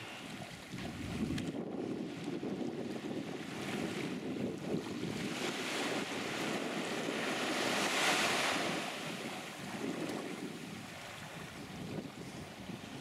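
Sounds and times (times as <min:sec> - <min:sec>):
small waves washing on sand: 0:00.0 - 0:13.0
wind buffeting microphone: 0:00.0 - 0:13.0.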